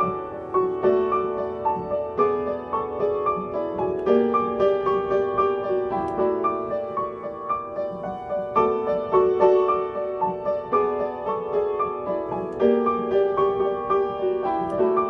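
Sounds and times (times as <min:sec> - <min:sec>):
piano-like pop ballad melody: 0:00.0 - 0:15.0.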